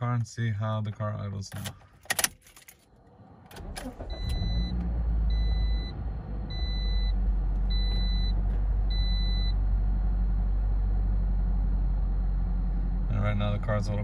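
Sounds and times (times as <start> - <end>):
car engine starting and idling: 0.1 - 14.0.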